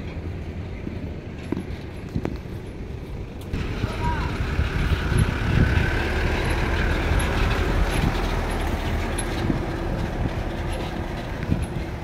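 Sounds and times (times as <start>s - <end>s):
pickup engine running: 0.0s - 12.0s.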